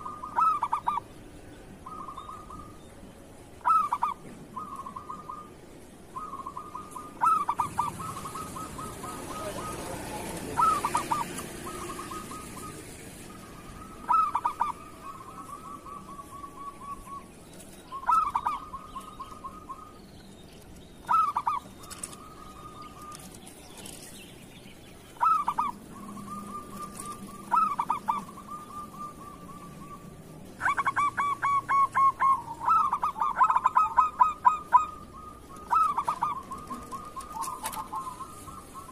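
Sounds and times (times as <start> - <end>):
dove cooing: 0.0 - 1.2, 3.6 - 17.3, 17.9 - 20.0, 21.0 - 24.0, 25.1 - 38.9.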